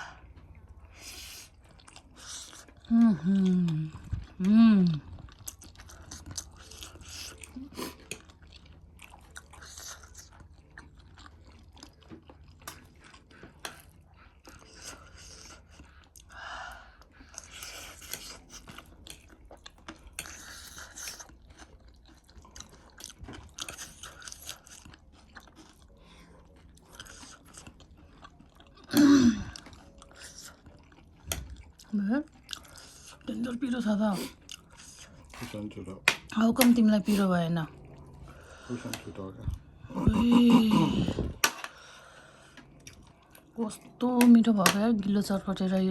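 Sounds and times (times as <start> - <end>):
chewing and crunching food: 0.0 - 45.9.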